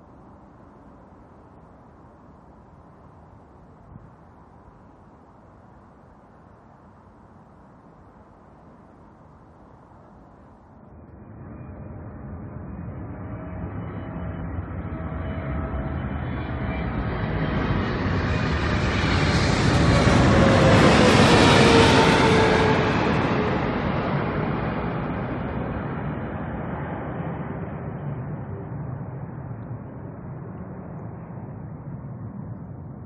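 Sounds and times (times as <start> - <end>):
jet engines passing overhead: 0.0 - 33.0.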